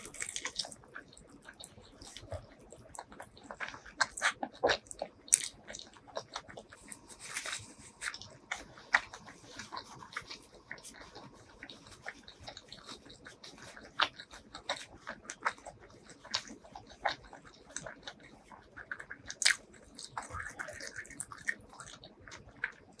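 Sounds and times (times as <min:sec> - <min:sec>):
biting and chewing food: 0:00.0 - 0:23.0.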